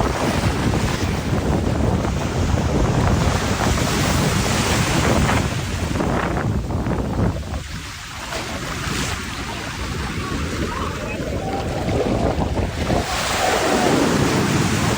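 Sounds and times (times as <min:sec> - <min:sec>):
sea waves washing: 0:00.0 - 0:14.9
wind buffeting microphone: 0:00.0 - 0:14.9.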